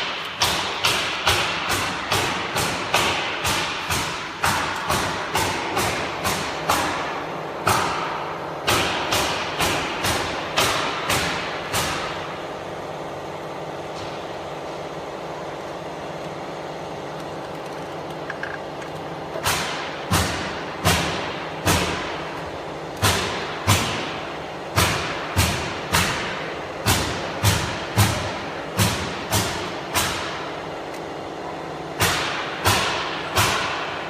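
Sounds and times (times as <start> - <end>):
mechanical hum: 0.0 - 34.0.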